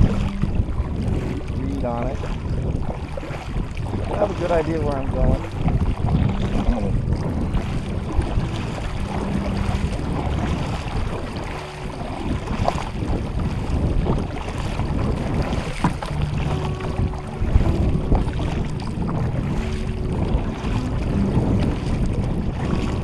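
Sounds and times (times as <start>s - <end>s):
water splashing against a kayak: 0.0s - 23.0s
wind buffeting microphone: 0.0s - 23.0s.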